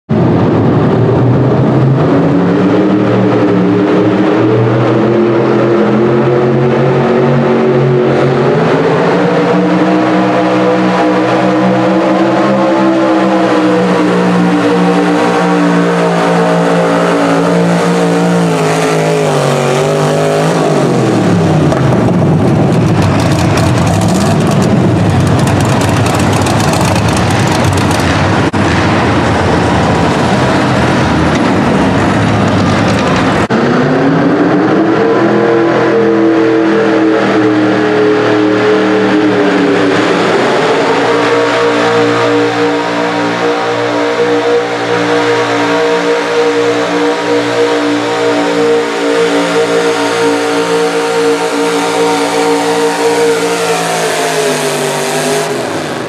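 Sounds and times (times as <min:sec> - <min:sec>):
truck engine running hard: 0:00.1 - 0:56.0.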